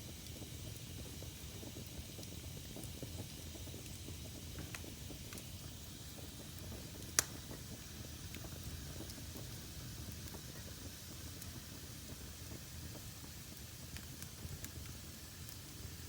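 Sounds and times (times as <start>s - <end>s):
wood fire crackling: 0.1s - 16.0s.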